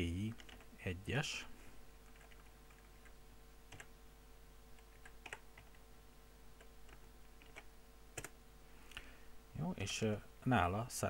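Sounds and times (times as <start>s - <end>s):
quiet steady hum: 0.0s - 11.0s.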